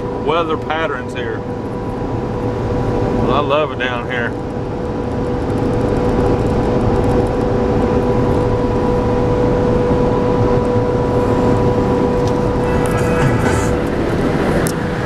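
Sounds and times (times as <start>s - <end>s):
constant whine: 0.0s - 15.0s
road and engine noise in cab: 0.0s - 15.0s.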